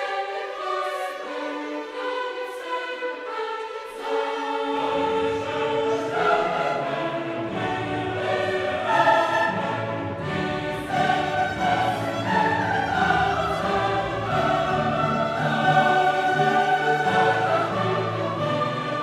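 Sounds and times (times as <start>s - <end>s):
choral music with orchestra: 0.0s - 19.0s.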